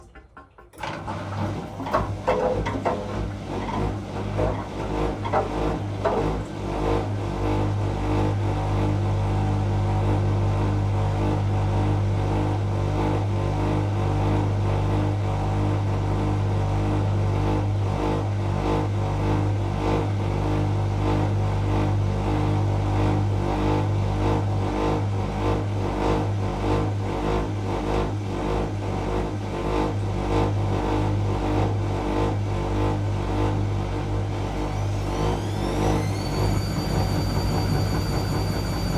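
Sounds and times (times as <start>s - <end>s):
washing machine droning: 0.0s - 38.9s.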